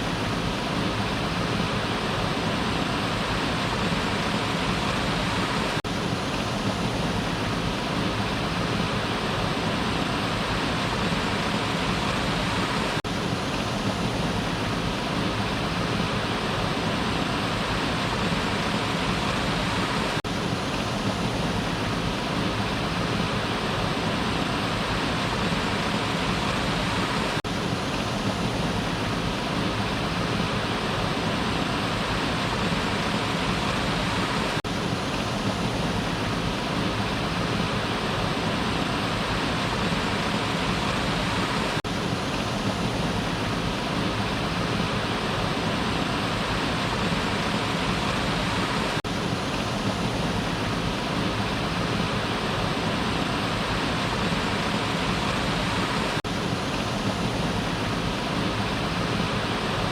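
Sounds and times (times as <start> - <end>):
waterfall pouring and splashing: 0.0 - 59.9.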